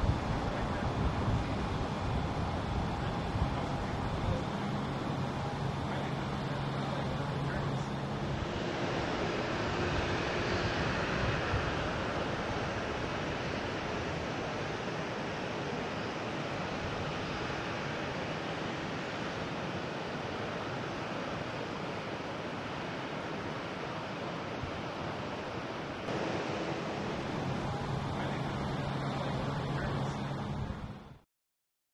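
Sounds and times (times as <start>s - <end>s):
outdoor rushing noise: 0.0s - 31.2s.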